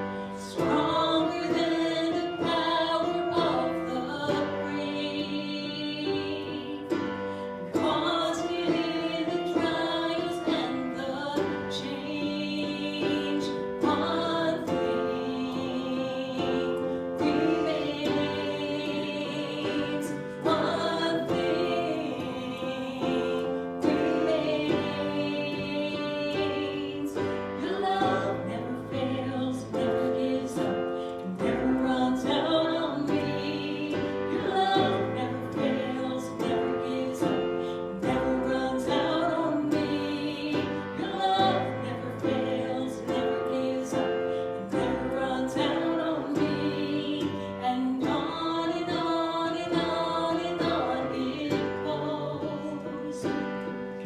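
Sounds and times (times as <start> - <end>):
instrumental accompaniment: 0.0 - 54.0
voices singing together: 0.0 - 54.0.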